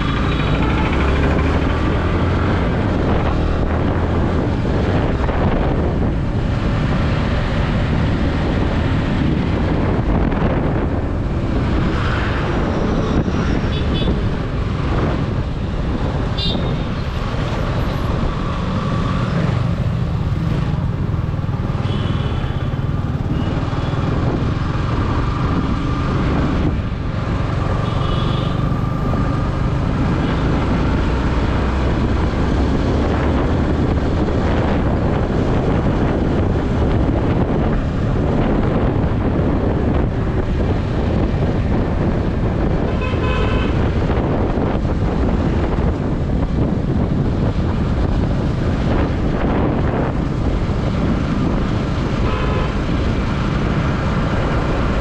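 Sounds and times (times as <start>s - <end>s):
road and wind noise: 0.0s - 55.0s
surrounding traffic: 0.0s - 55.0s.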